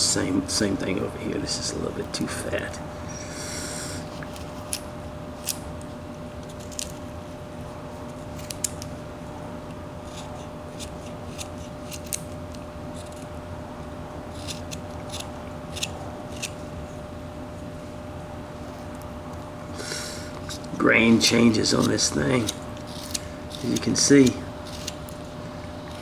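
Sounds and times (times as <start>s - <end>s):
knife shaving wood: 3.1s - 17.9s, 18.5s - 26.0s.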